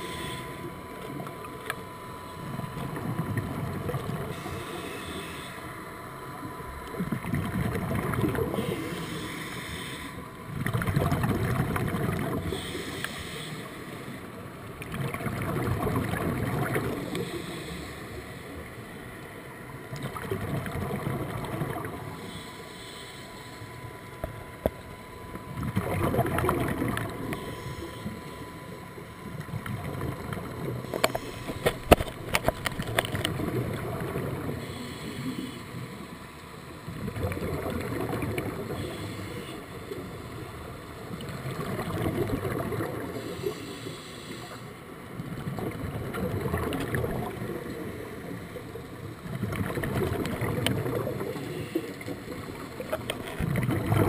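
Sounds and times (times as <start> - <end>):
underwater breathing bubbles: 0.0 - 1.5, 2.2 - 5.8, 6.8 - 18.8, 19.9 - 36.1, 36.9 - 40.2, 41.2 - 44.8, 45.4 - 54.0
faint steady whine: 0.0 - 54.0.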